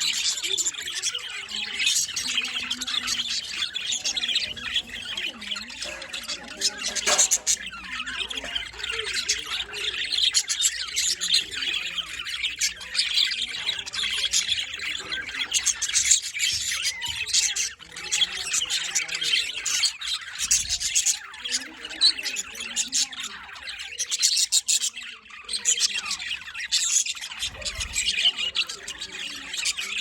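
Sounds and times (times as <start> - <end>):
parrots chattering and squawking: 0.0 - 30.0.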